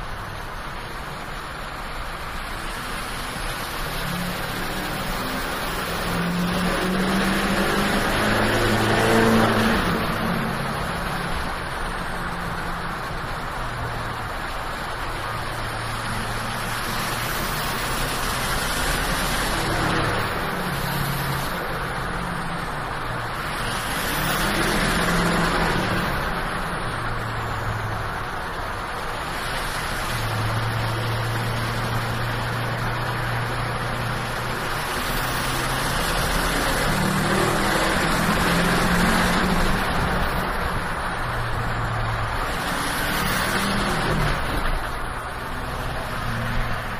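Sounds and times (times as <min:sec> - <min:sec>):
diesel truck engine drone: 0:00.0 - 0:46.9
road noise: 0:00.0 - 0:46.9.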